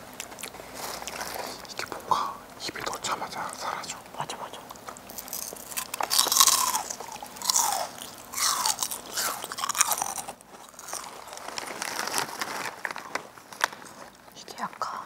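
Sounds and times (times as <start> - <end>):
chips being chewed crunchily: 0.0 - 2.1, 2.7 - 14.3.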